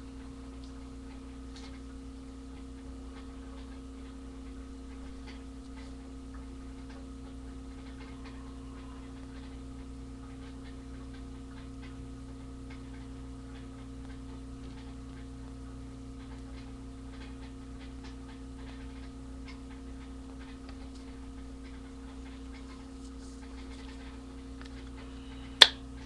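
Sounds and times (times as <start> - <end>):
faint clicks and crackles: 0.0 - 26.0
steady electrical hum: 0.0 - 26.0.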